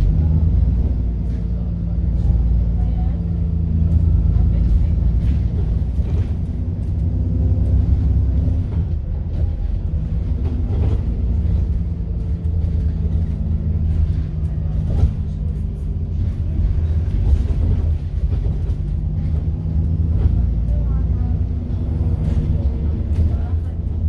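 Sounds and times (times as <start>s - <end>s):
bus body rattling: 0.0s - 24.0s
bus diesel engine: 0.0s - 24.0s.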